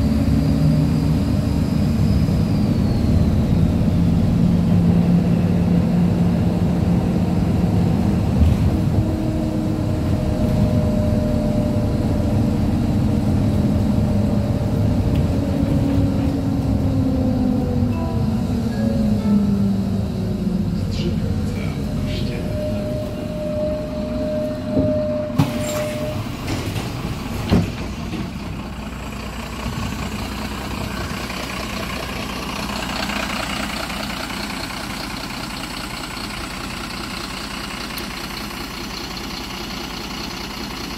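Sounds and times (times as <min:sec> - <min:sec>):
bus running: 0:00.0 - 0:40.9
diesel engine idling: 0:00.0 - 0:40.9.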